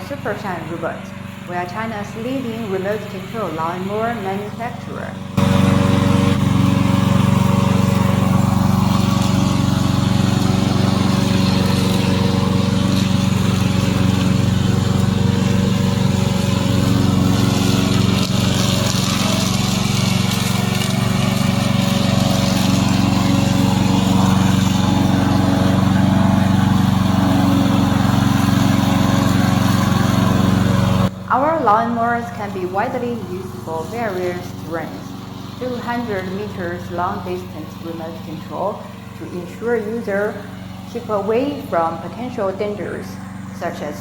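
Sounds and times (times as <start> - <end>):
lawn mower engine droning: 0.0 - 44.0.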